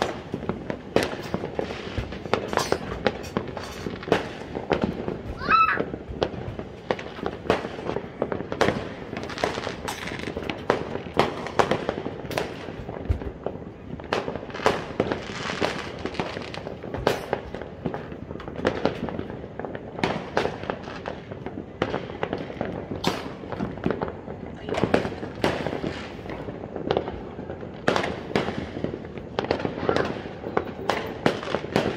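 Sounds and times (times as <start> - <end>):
fireworks bangs and pops: 0.0 - 31.9.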